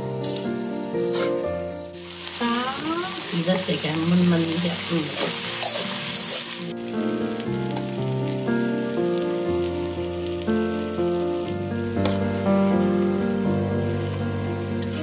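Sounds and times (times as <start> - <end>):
soft keyboard chord music: 0.0 - 3.1, 5.0 - 15.0
food sizzling in a wok: 0.0 - 15.0.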